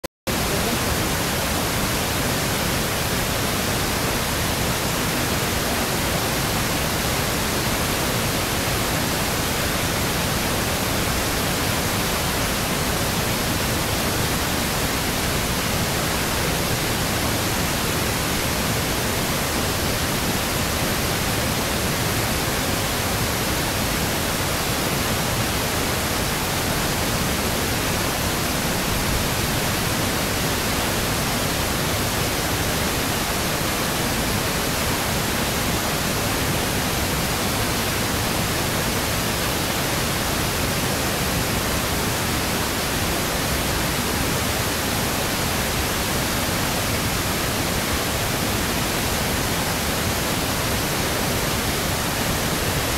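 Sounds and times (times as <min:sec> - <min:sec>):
waterfall rushing: 0:00.3 - 0:52.9.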